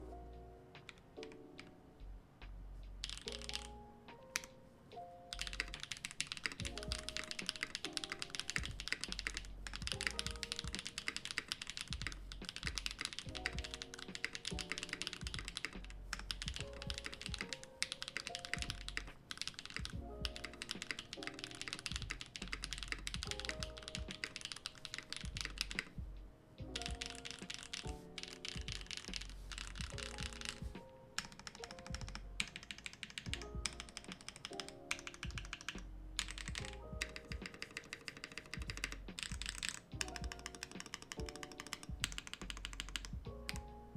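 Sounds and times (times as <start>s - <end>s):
soft background music: 0.0s - 43.9s
mechanical keyboard typing: 3.0s - 4.5s, 5.3s - 26.0s, 26.7s - 43.7s.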